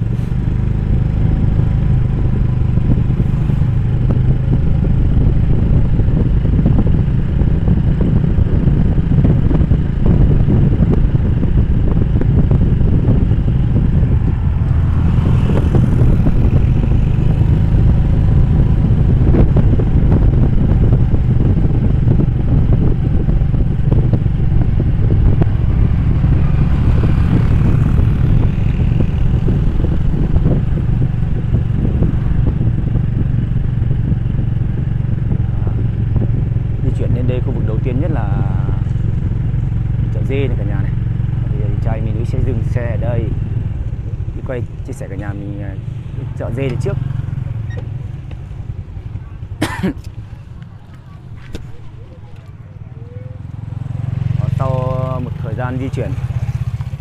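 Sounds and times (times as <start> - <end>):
motorbike engine droning: 0.0 - 57.0.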